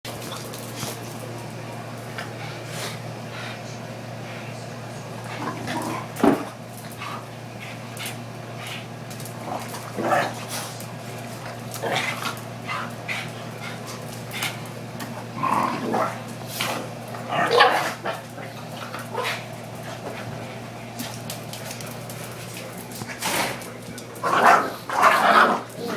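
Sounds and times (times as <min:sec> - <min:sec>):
steady low hum: 0:00.1 - 0:25.9.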